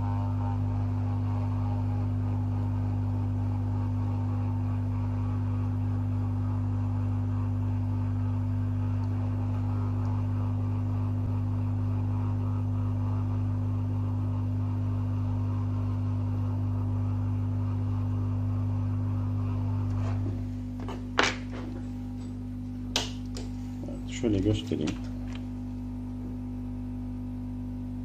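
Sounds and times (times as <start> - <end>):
hot air station blowing with hum: 0.0 - 28.0.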